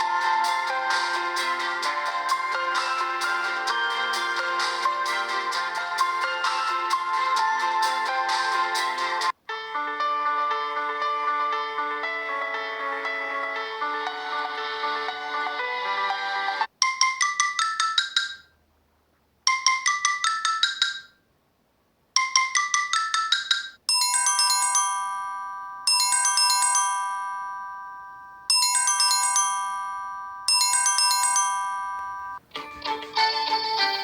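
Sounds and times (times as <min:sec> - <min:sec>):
marimba-like ringtone: 0:00.0 - 0:11.5, 0:12.1 - 0:18.6, 0:19.5 - 0:21.2, 0:22.2 - 0:34.0
chime-like ringtone chord: 0:00.0 - 0:18.4, 0:22.2 - 0:34.0.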